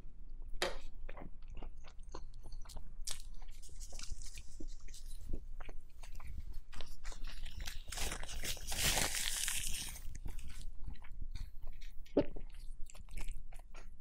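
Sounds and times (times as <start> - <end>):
person chewing food: 0.3 - 14.0.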